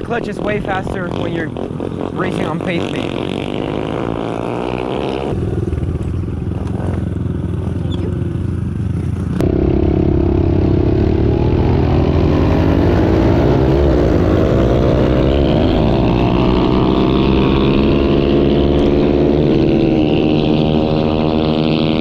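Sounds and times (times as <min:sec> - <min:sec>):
pit bike engine revving: 0:00.0 - 0:22.0.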